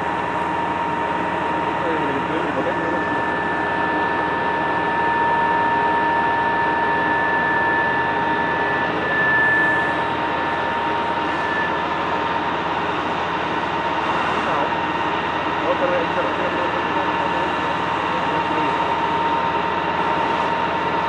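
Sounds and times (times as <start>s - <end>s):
high-pitched whine: 0.0s - 21.0s
machine drone: 0.0s - 21.0s.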